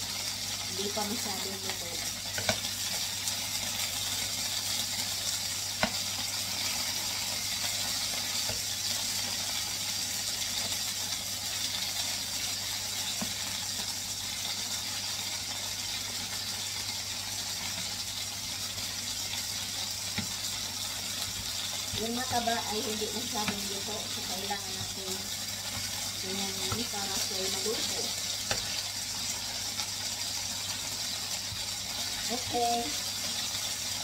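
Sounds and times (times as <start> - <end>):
chicken sizzling in a pan: 0.0 - 34.0.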